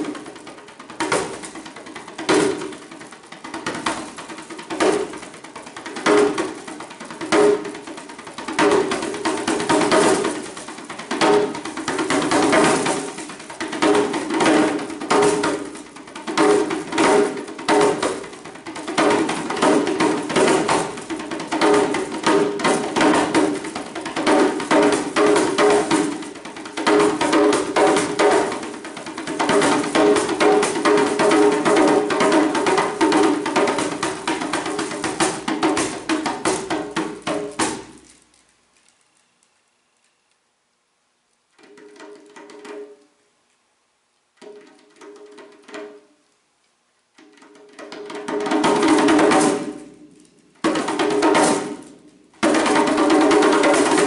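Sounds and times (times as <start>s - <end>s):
djembe played with hands: 0.0s - 38.1s, 41.6s - 43.0s, 44.4s - 46.2s, 47.2s - 54.0s.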